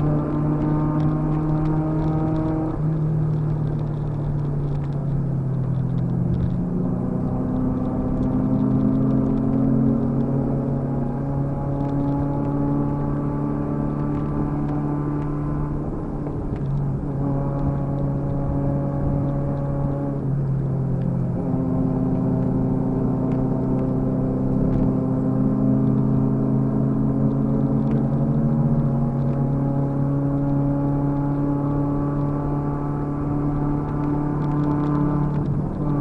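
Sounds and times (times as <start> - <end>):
car engine droning: 0.0 - 36.0.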